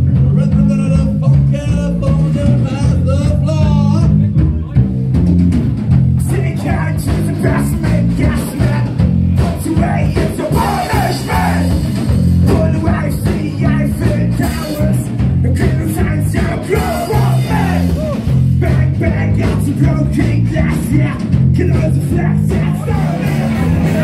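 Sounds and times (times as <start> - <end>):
rock song with singing: 0.0 - 24.0.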